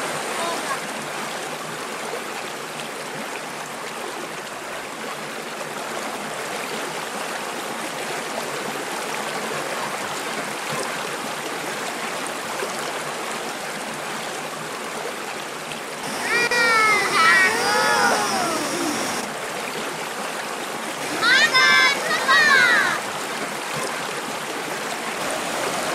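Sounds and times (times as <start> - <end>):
stream flowing over rocks: 0.0 - 25.9.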